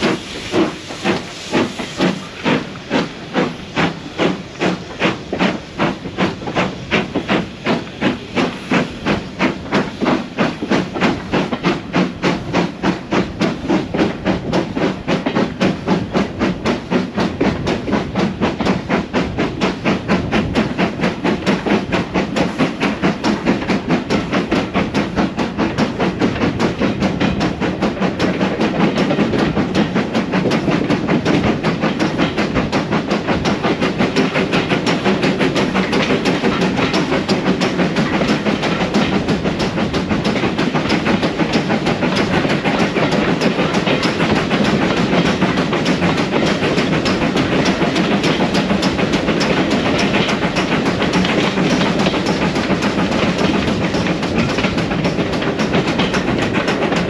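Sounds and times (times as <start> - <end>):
train rumble: 0.0 - 57.0
wheels clicking on rails: 0.0 - 57.0.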